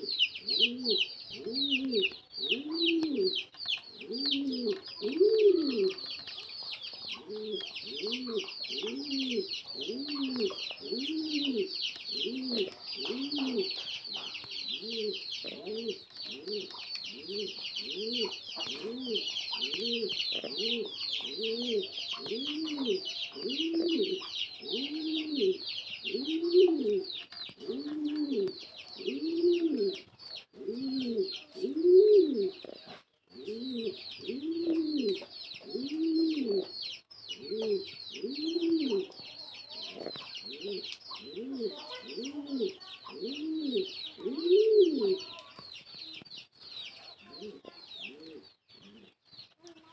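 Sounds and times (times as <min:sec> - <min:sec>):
pigeon cooing: 0:00.0 - 0:06.1, 0:07.1 - 0:36.7, 0:37.4 - 0:46.2, 0:47.0 - 0:49.2.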